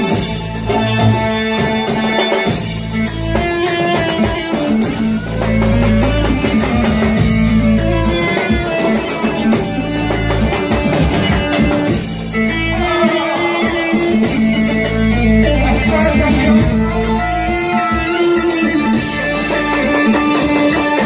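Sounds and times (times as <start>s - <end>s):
bass: 0.0s - 13.0s, 14.1s - 21.0s
drum beat: 0.0s - 21.0s
lead melody with bent notes: 0.0s - 21.0s.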